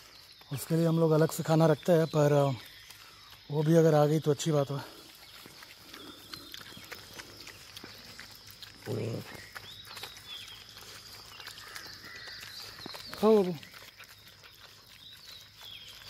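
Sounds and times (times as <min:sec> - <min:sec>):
puppies chewing and lapping: 0:00.0 - 0:16.0.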